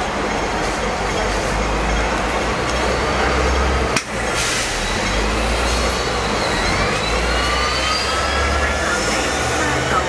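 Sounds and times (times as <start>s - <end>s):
electric tram rumbling on rails: 0.0s - 10.0s.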